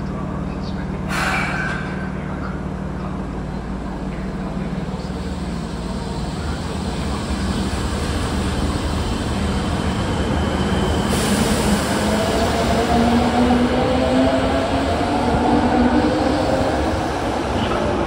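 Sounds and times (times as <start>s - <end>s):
train wheel and rail noise: 0.0s - 18.0s.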